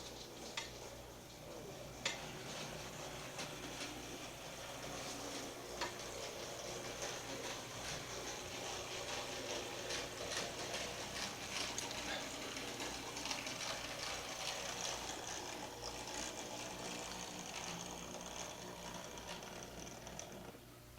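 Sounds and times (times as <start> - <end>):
model train motor whirring: 0.0 - 20.6
wheels clicking on track: 0.0 - 20.6.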